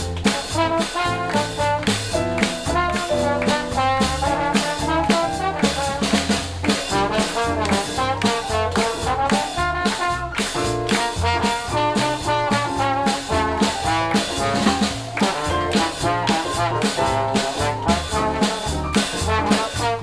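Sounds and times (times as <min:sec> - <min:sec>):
jazz band playing swing: 0:00.0 - 0:20.0.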